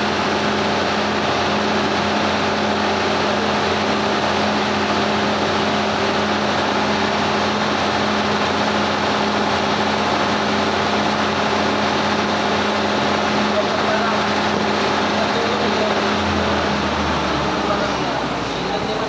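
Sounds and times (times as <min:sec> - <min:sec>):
steady low machine hum: 0:00.0 - 0:19.0.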